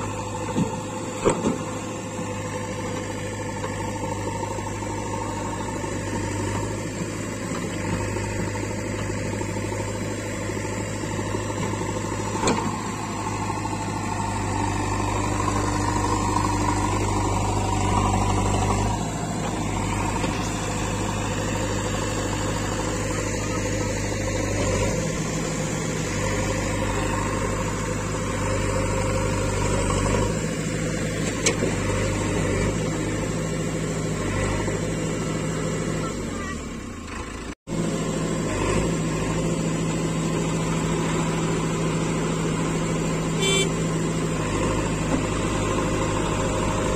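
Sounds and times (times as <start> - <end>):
backhoe diesel engine running: 0.0 - 46.9.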